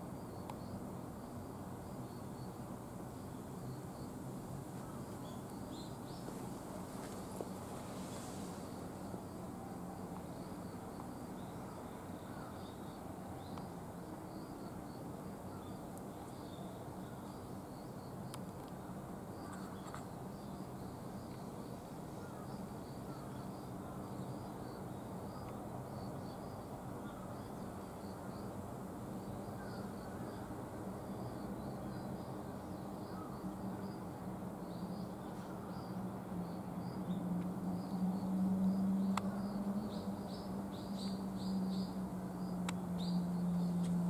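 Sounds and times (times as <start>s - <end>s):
insects calling: 0.0s - 44.0s.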